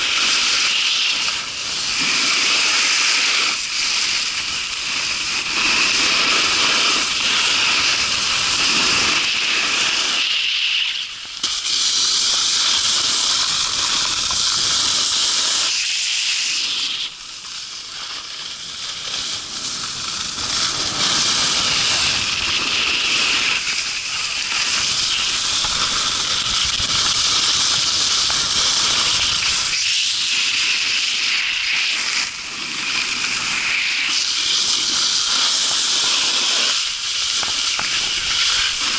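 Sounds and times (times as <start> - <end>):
snowboards carving on packed snow: 0.0 - 38.9.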